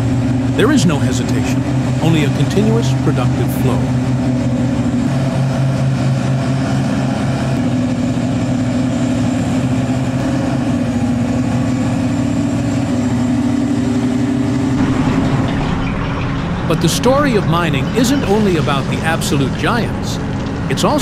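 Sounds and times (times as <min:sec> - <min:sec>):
heavy diesel engines running: 0:00.0 - 0:21.0.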